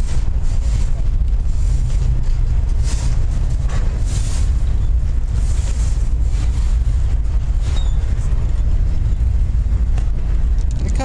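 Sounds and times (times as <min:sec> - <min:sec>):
train wheels rumbling on rail: 0:00.0 - 0:11.0
wind buffeting the microphone: 0:00.0 - 0:11.0.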